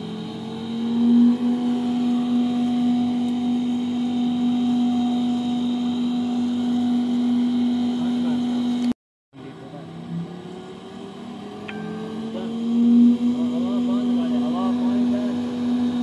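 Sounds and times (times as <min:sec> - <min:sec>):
pump motor humming: 0:00.0 - 0:08.9, 0:09.5 - 0:16.0.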